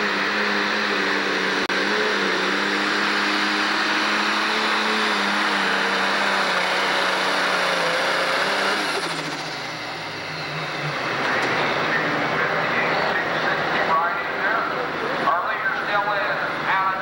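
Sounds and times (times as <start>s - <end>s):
tractor diesel engine labouring: 0.0s - 17.0s.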